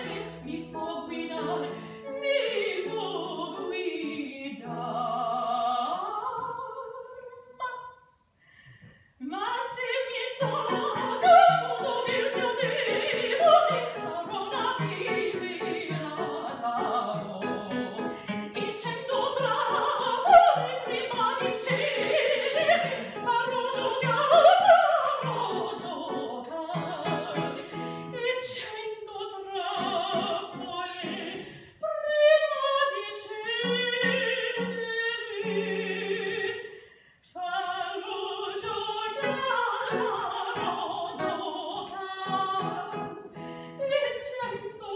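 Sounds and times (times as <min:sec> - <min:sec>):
woman singing opera: 0:00.0 - 0:08.1, 0:09.2 - 0:44.9.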